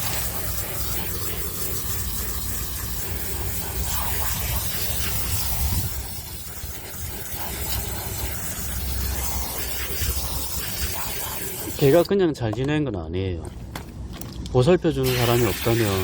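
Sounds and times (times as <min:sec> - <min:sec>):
water spraying onto bedding: 0:00.0 - 0:12.1, 0:15.0 - 0:16.0.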